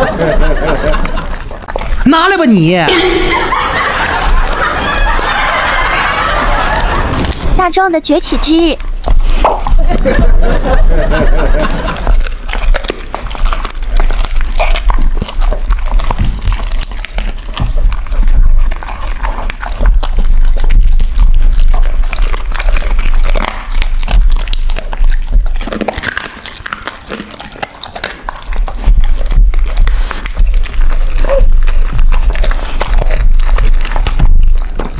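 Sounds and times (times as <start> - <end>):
dogs chewing meat on bone: 0.0 - 34.9.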